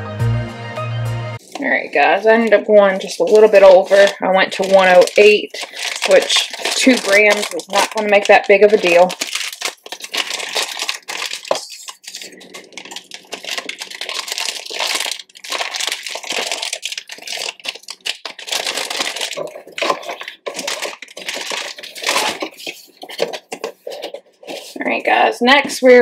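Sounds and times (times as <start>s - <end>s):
plastic packaging crinkling: 1.4s - 25.1s.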